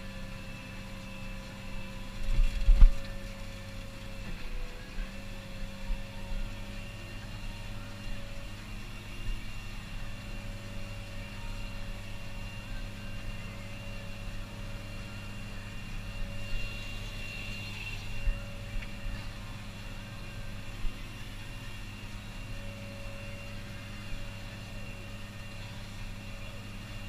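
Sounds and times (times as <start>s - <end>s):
thin high whine: 0.0s - 27.0s.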